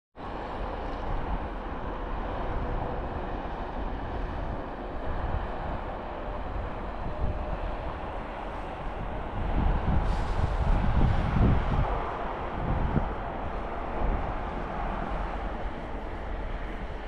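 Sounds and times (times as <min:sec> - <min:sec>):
highway and truck traffic rumble: 0:00.2 - 0:17.0.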